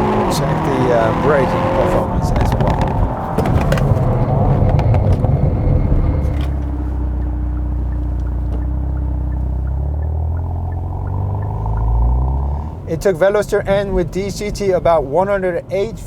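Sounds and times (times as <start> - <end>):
tyre noise on wet road: 0.0 - 13.1
car engine running steadily: 0.0 - 16.0.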